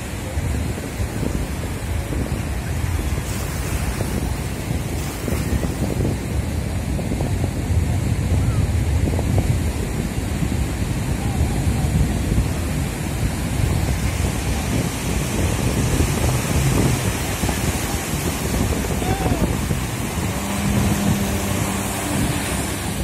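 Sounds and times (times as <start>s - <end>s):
surf breaking: 0.0s - 7.8s, 9.5s - 23.0s
jet ski engine: 0.0s - 23.0s
wind on microphone: 0.0s - 23.0s.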